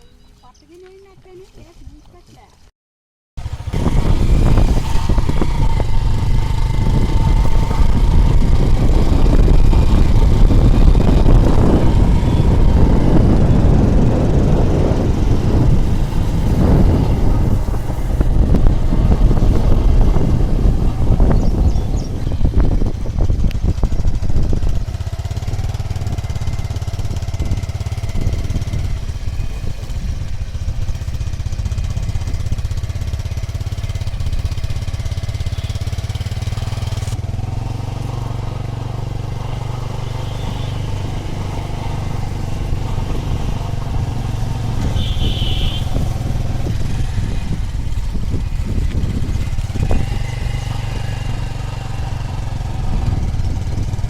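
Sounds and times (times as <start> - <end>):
vehicle engine running: 3.4 - 54.0.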